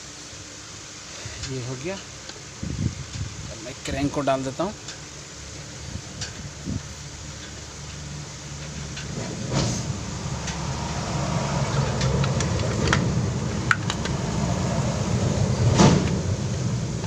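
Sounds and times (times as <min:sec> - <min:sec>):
steady low rumble: 0:01.4 - 0:17.0.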